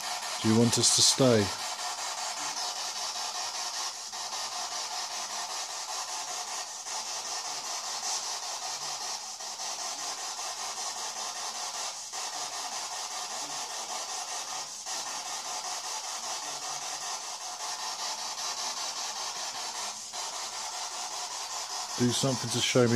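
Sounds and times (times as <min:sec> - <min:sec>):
hissing static: 0:00.0 - 0:22.9.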